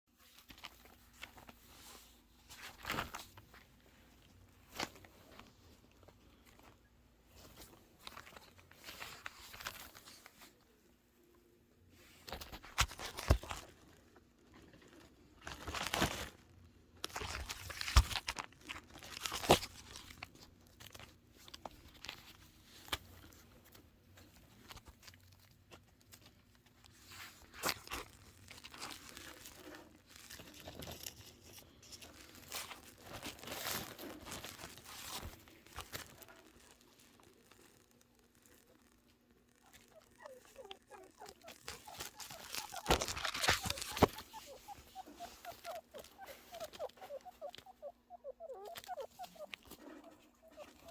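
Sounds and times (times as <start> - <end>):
chinchillas rustling and scratching: 0.1 - 10.9, 11.9 - 50.9.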